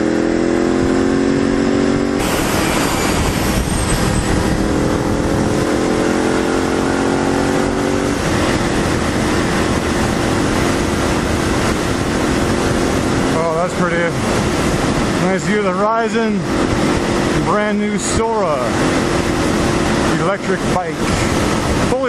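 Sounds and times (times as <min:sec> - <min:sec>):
motorcycle engine running: 0:00.0 - 0:22.0
wind rush over microphone: 0:00.4 - 0:22.0.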